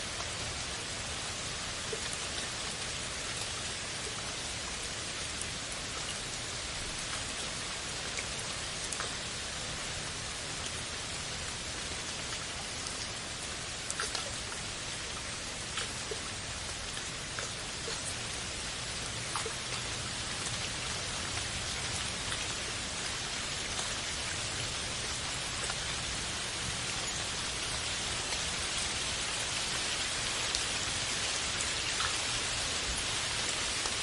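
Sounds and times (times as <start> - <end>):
steady rain falling: 0.0 - 34.0
raindrops ticking: 1.4 - 34.0.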